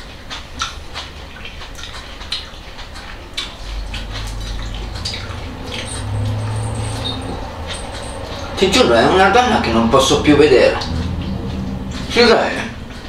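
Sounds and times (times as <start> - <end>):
chewing lettuce: 0.0 - 13.0
low hum: 1.8 - 13.0.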